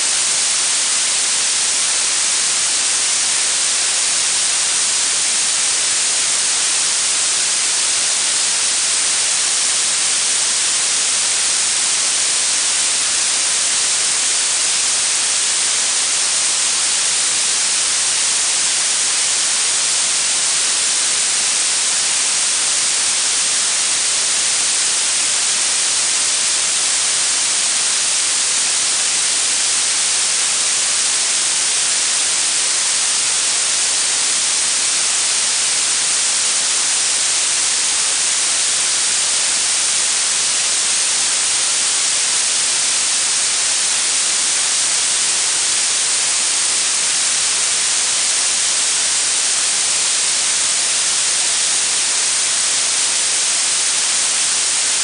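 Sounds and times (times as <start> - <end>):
high-pitched blue noise hiss: 0.0 - 55.0.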